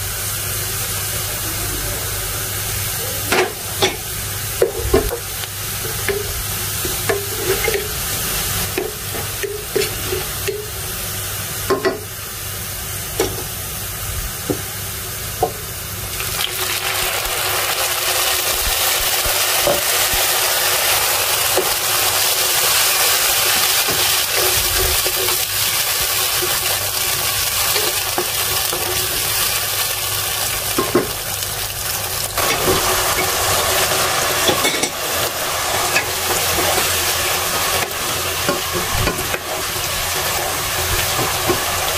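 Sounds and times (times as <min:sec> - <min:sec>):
onions frying in hot oil: 0:00.0 - 0:41.9.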